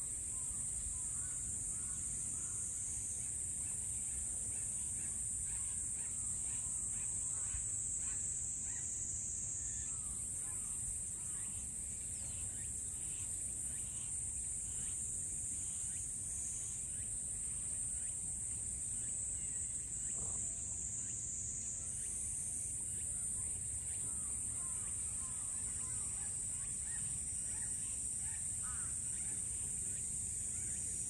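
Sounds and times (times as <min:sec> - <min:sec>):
cicadas droning: 0:00.0 - 0:31.0.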